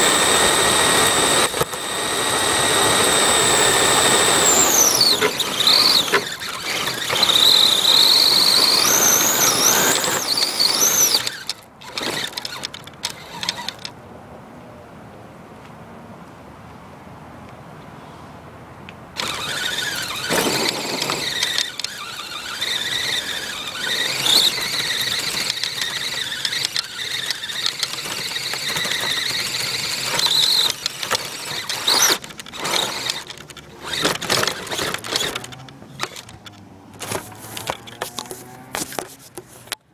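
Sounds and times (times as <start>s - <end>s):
toy car motor whining: 0.0s - 13.9s, 19.2s - 39.8s.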